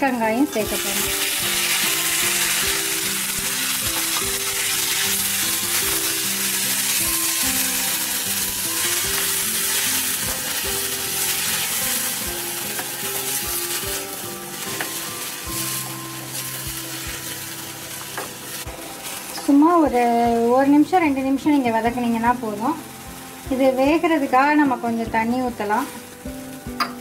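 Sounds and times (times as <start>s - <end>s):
soft background music: 0.0s - 27.0s
vegetables sizzling in oil: 0.0s - 27.0s.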